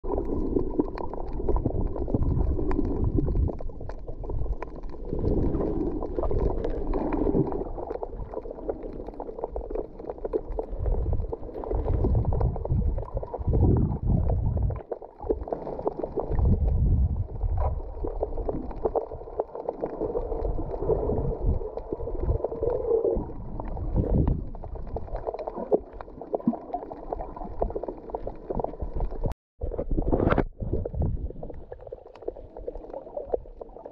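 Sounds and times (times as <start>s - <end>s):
underwater water sloshing: 0.0s - 33.9s.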